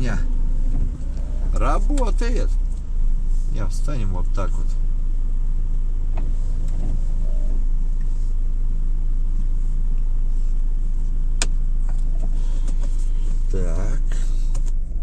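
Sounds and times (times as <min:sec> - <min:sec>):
van engine running: 0:00.0 - 0:15.0.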